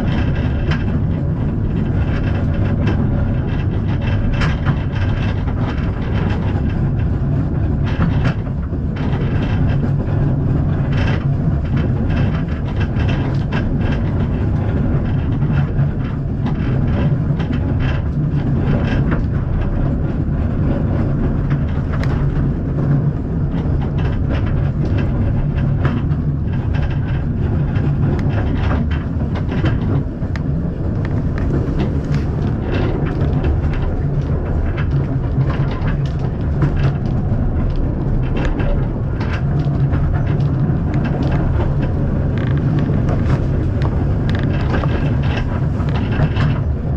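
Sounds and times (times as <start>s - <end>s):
train carriage rumbling: 0.0s - 46.9s
wheels clicking and rattling: 0.0s - 46.9s.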